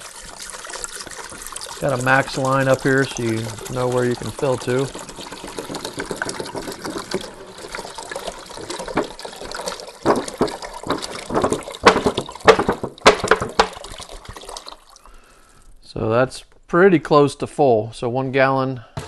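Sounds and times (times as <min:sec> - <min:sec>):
jug gulping: 0:00.0 - 0:15.8
water pouring into a tank: 0:00.0 - 0:15.8.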